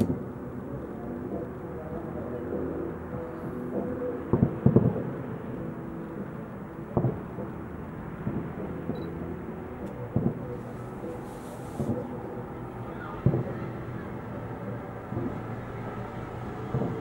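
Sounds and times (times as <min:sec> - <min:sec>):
background rumble: 0:00.0 - 0:17.0
fireworks booming: 0:00.0 - 0:17.0.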